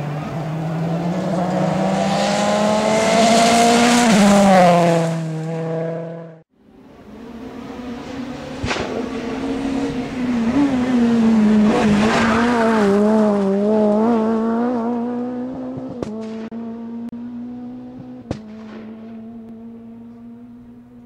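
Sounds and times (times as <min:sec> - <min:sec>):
rally car engine passing: 0:00.0 - 0:21.0.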